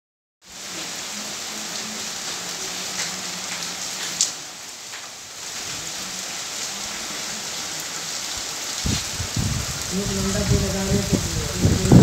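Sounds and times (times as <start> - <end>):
heavy rain on concrete: 0.4 - 12.0.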